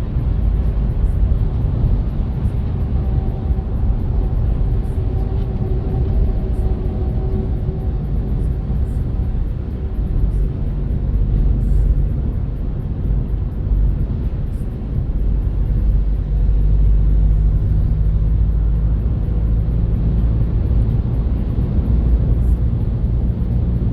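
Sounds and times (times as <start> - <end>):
car tyre and engine rumble: 0.0 - 23.9.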